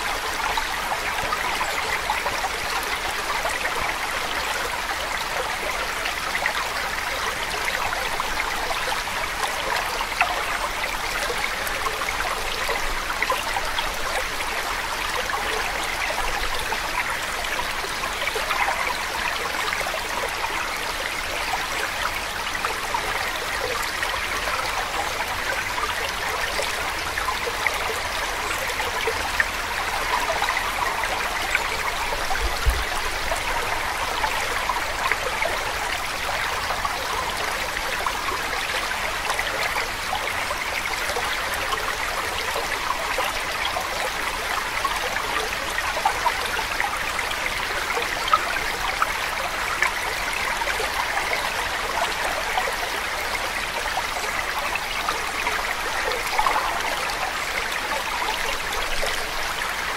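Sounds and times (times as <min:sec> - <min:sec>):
trickling stream: 0:00.0 - 0:59.9.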